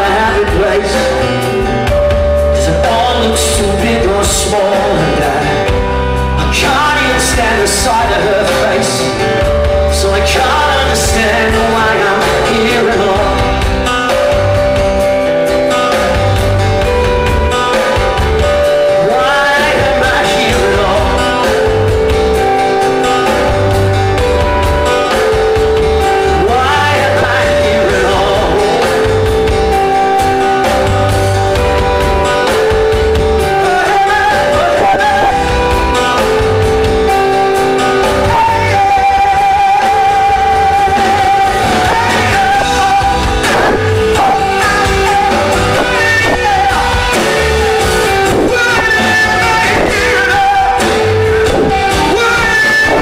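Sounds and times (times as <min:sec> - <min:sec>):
drums: 0:00.0 - 0:53.0
electric bass: 0:00.0 - 0:53.0
person singing: 0:00.0 - 0:53.0
strummed acoustic guitar: 0:00.0 - 0:53.0.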